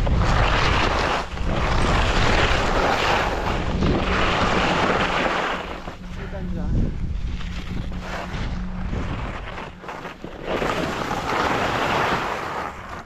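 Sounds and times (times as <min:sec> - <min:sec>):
wind buffeting microphone: 0:00.0 - 0:11.5
skis scraping through snow: 0:00.0 - 0:13.0.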